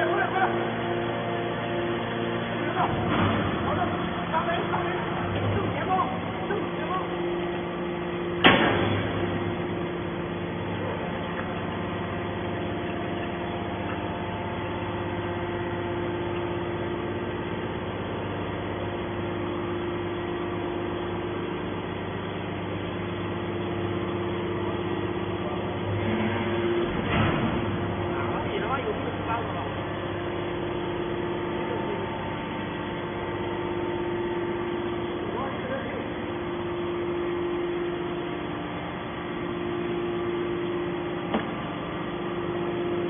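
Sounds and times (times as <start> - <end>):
hydraulic baler humming: 0.0 - 43.0.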